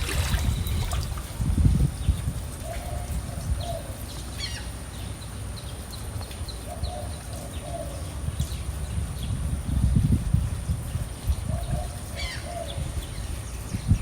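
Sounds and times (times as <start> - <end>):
birds chirping: 0.0 - 9.6, 11.2 - 14.0.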